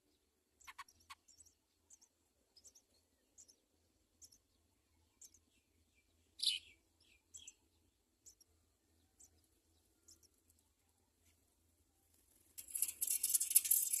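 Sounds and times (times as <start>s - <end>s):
sparrows chirping: 0.0s - 11.2s, 12.6s - 14.0s.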